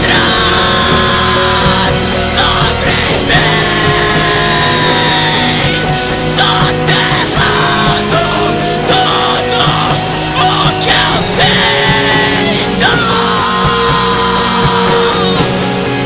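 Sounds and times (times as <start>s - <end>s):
drums and cymbals: 0.0s - 16.0s
electric guitars ringing: 0.0s - 16.0s.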